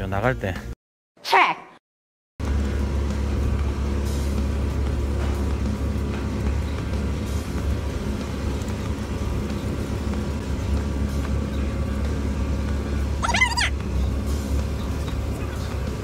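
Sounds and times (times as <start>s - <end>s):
truck diesel engine running: 2.4s - 16.0s.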